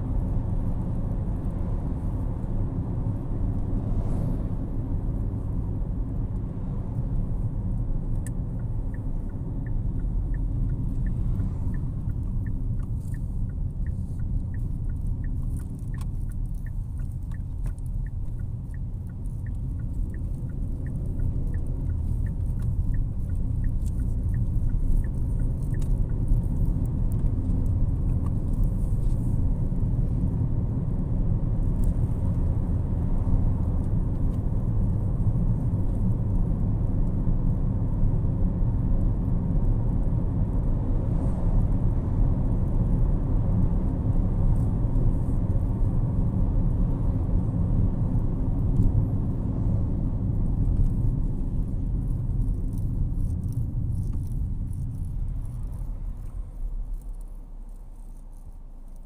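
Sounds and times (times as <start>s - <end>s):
car cabin road and engine rumble: 0.0s - 59.0s
turn signal ticking: 0.0s - 59.0s.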